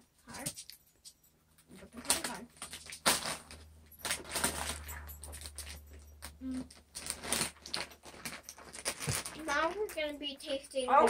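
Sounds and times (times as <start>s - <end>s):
plastic bags crinkling: 1.8s - 10.9s.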